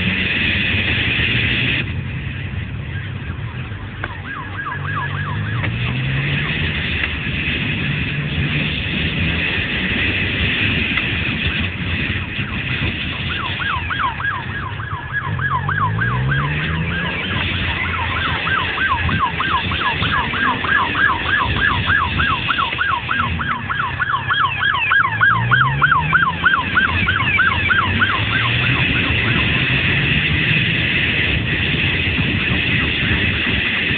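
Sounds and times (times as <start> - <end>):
engines revving: 0.0 - 33.9
police siren yelping: 0.3 - 8.8, 9.4 - 33.9.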